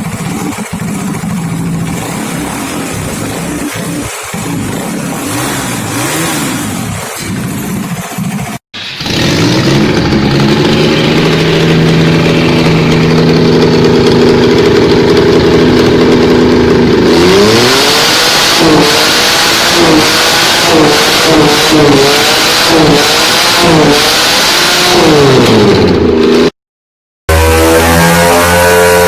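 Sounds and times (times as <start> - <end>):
second engine running: 0.0 - 26.5
engine revving: 0.0 - 26.6, 27.3 - 29.0.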